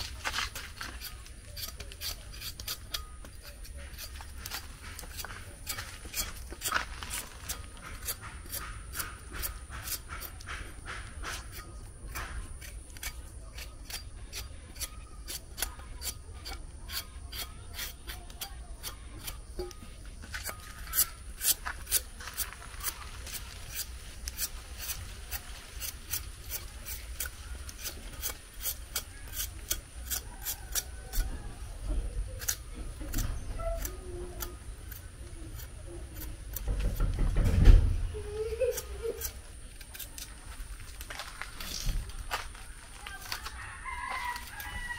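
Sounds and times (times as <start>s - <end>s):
knife scraping vegetable skin: 0.0s - 37.1s, 38.2s - 42.2s.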